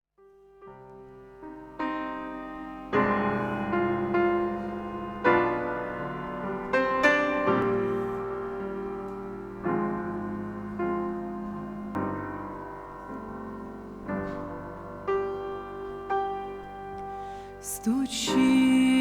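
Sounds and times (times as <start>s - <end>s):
slow piano chords: 0.2s - 19.0s.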